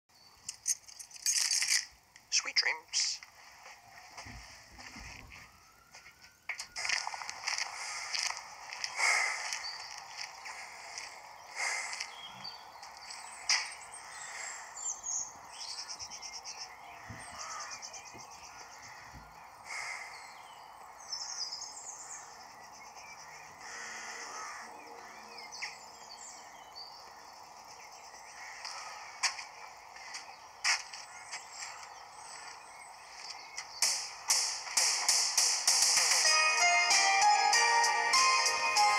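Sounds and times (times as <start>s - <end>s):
birds chirping: 0.1s - 38.9s
street ambience: 0.1s - 38.9s.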